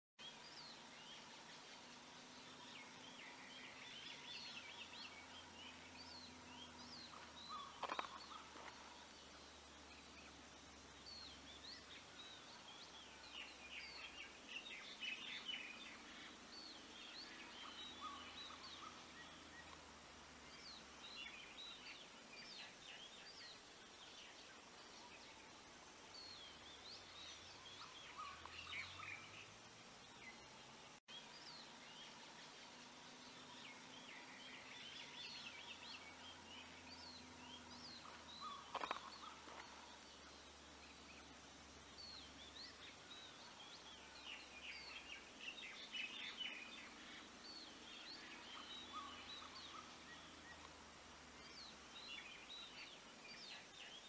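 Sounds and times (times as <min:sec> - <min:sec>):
small birds chirping: 0:00.2 - 0:54.0.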